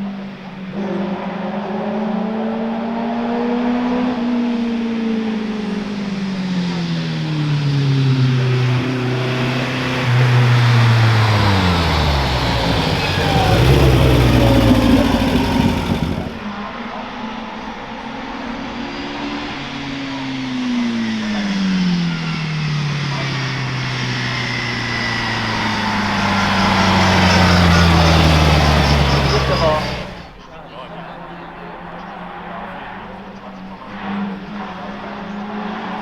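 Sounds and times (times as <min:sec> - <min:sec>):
race car engine approaching: 0:00.0 - 0:36.0.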